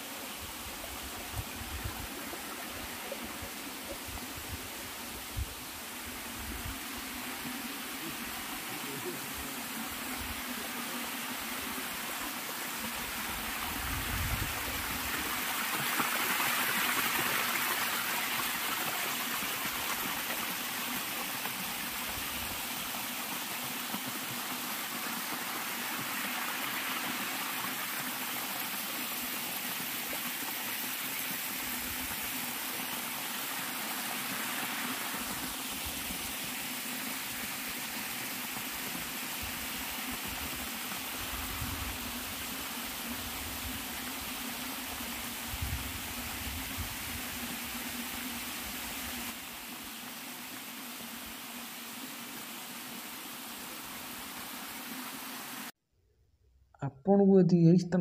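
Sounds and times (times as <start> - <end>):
small waterfall rushing: 0.0 - 55.8.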